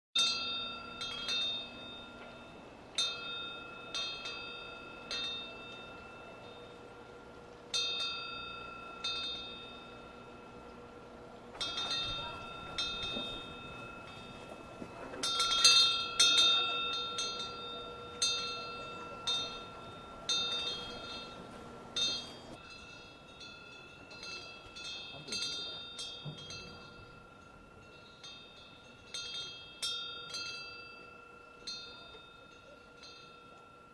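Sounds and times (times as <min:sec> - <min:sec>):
wind bell ringing: 0:00.2 - 0:33.9.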